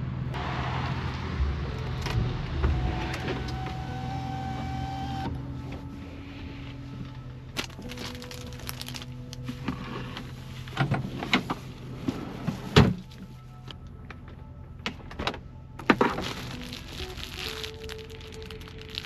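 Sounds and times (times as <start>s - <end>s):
soft background music: 0.6s - 19.0s.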